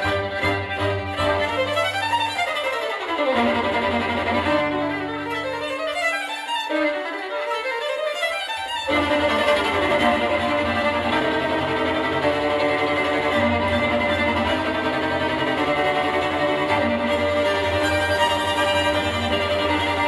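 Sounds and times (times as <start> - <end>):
violin music over loudspeakers: 0.0 - 20.0.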